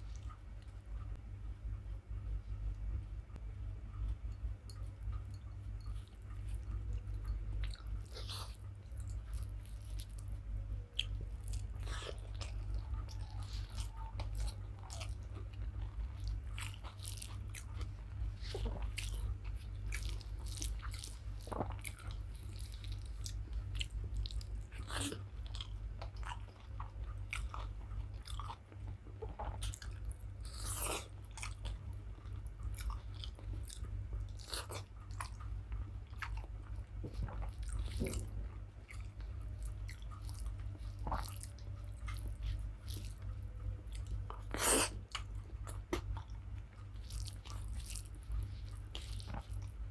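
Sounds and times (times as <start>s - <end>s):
low hum: 0.0s - 49.9s
person chewing food: 3.9s - 49.9s.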